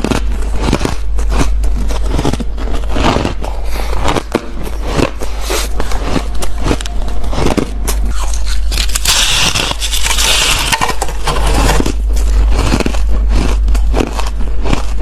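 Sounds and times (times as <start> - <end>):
ice being crunched by teeth: 0.0 - 15.0.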